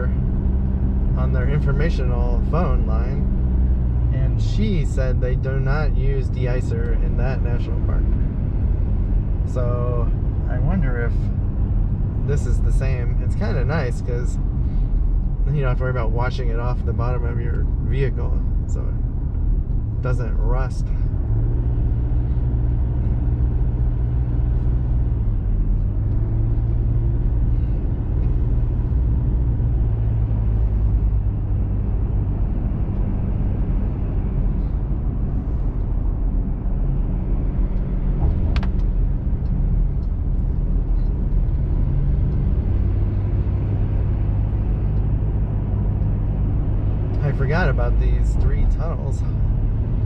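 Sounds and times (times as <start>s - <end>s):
engine and road rumble in cabin: 0.0s - 50.0s.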